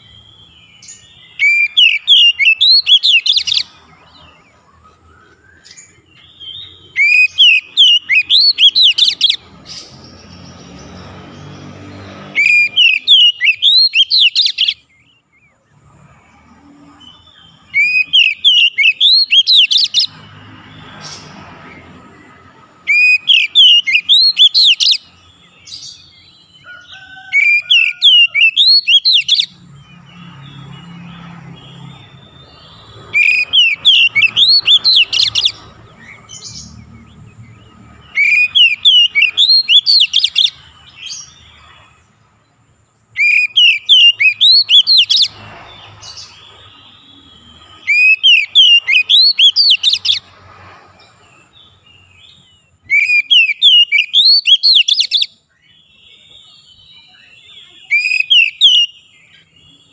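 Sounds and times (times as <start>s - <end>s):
bird song: 0.0s - 59.9s.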